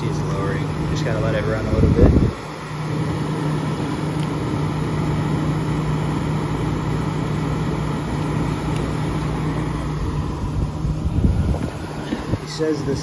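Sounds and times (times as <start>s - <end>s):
air conditioner fan rush: 0.0s - 13.0s
steady low hum: 0.0s - 13.0s.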